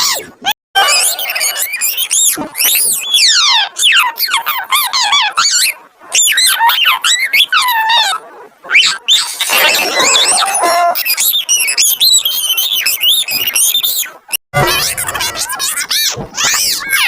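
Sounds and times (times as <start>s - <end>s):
parrot squawking and whistling: 0.0s - 17.0s.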